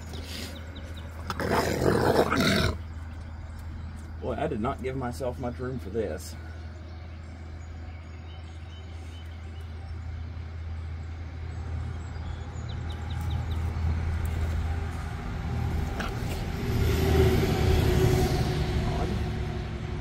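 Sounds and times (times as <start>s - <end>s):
vehicle engine hum: 0.0s - 2.1s, 2.7s - 20.0s.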